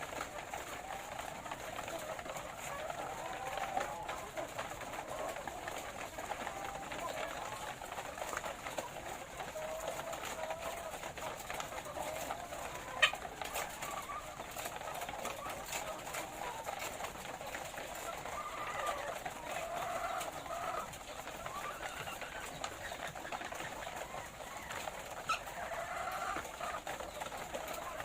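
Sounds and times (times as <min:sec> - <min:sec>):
hens murmuring calls: 0:00.0 - 0:28.0.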